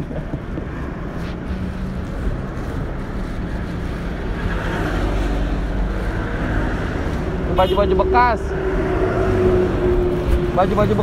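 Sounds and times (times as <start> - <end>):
roadside traffic rumble: 0.0 - 11.0.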